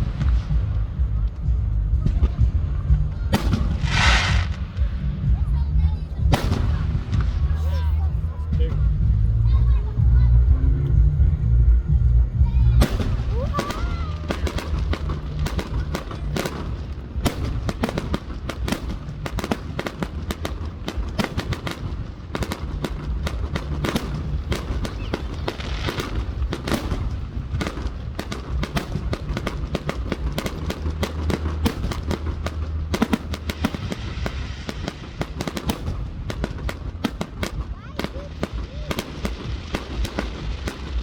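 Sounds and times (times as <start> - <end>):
fireworks bangs and crackles: 0.0 - 41.0
low rumble: 0.0 - 41.0.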